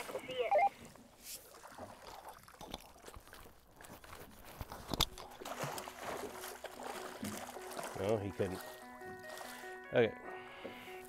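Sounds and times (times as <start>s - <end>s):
water sloshing and dripping: 0.0s - 11.0s.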